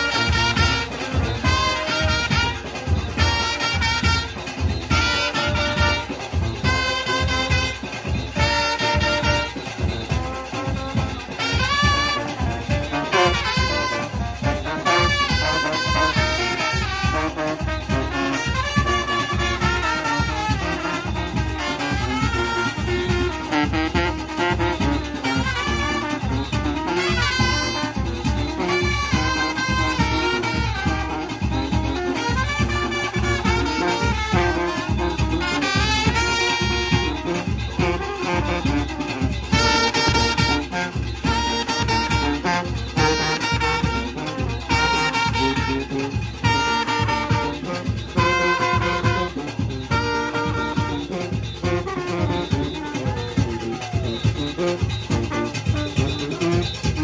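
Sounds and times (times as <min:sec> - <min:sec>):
brass band playing: 0:00.0 - 0:57.0
driving drum beat: 0:00.0 - 0:57.0.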